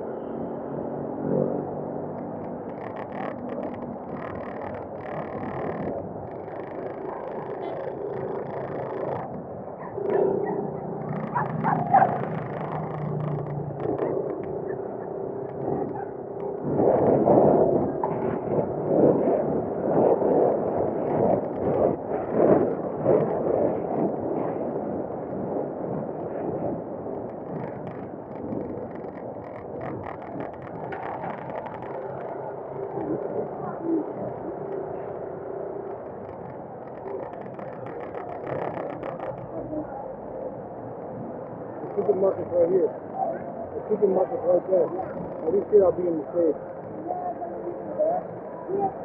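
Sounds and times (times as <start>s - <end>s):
road and traffic noise: 0.0s - 49.0s.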